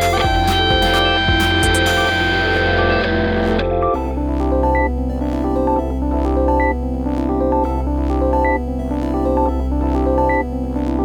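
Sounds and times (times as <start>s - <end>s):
synthesizer and keyboard music: 0.0s - 11.0s.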